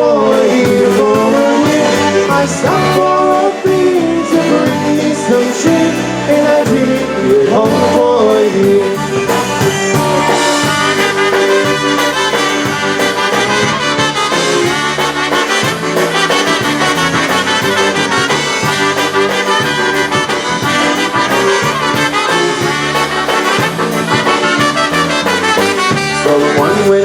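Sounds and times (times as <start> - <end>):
bass and drum beat: 0.0 - 27.0
brass horns: 0.0 - 27.0
live band playing folk dance tune: 0.0 - 27.0.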